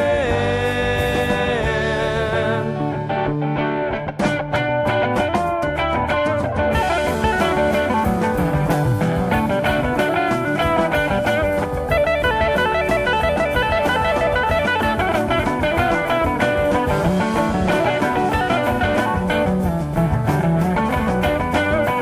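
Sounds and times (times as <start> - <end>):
drums keeping steady beat: 0.0 - 3.0, 4.1 - 22.0
gospel band instrumental: 0.0 - 22.0
guitar: 0.0 - 22.0.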